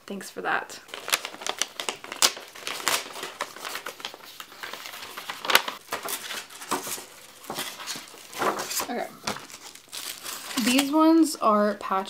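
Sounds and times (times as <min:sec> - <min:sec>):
envelope tearing and paper rustling: 0:00.9 - 0:11.2.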